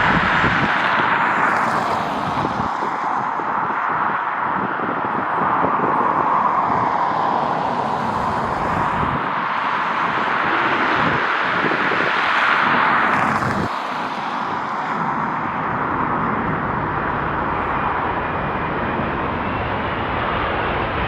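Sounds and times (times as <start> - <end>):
jet engines rushing: 0.0 - 21.0
wind buffeting microphone: 0.0 - 21.0.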